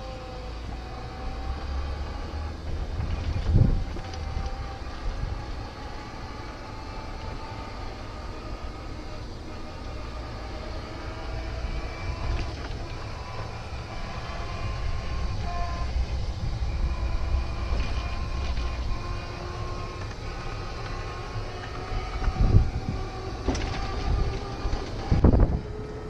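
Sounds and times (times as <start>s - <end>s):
golf cart motor whine: 0.0s - 26.0s.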